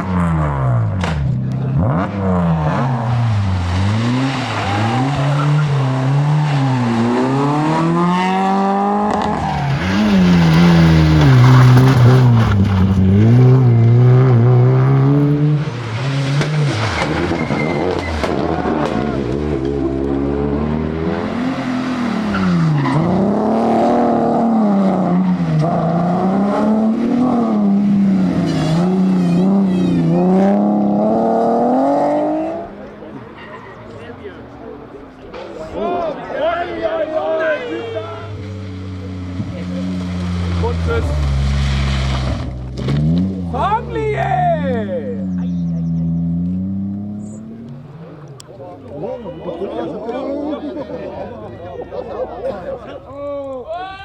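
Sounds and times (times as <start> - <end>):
rally car engine revving: 0.0 - 35.8, 37.0 - 53.1.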